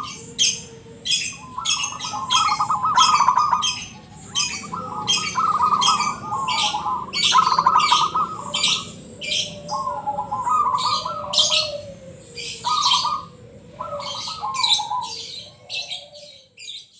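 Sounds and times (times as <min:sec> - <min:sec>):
dove cooing: 0:00.0 - 0:16.9
small bird chirping: 0:00.0 - 0:16.9.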